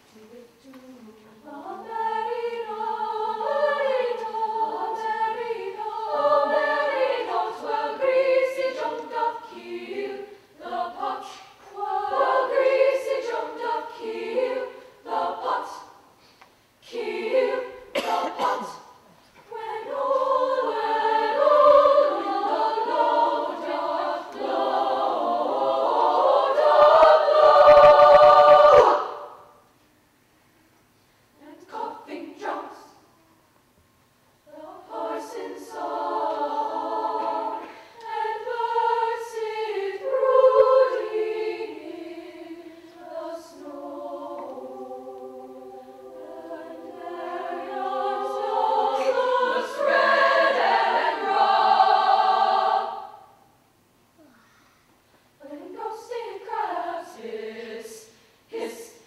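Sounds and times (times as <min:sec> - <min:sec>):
women's choir singing: 0:01.4 - 0:16.1, 0:16.8 - 0:29.6, 0:31.4 - 0:33.1, 0:34.5 - 0:53.6, 0:55.4 - 0:59.0.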